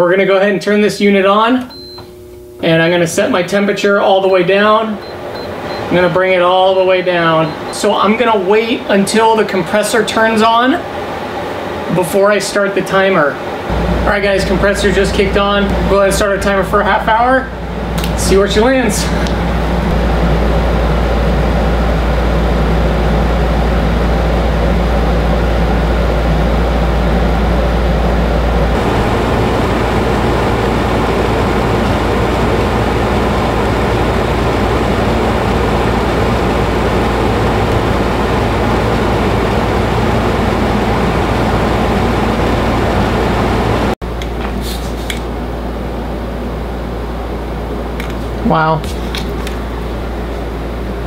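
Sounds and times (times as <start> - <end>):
air conditioner droning: 0.0 - 51.0.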